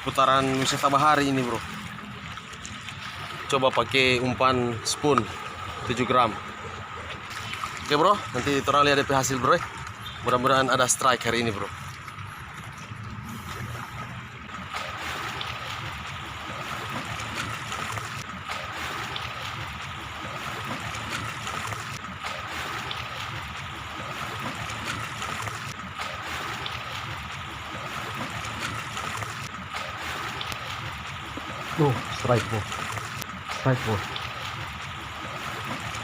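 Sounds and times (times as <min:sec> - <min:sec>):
sea water lapping shore: 0:00.0 - 0:36.0.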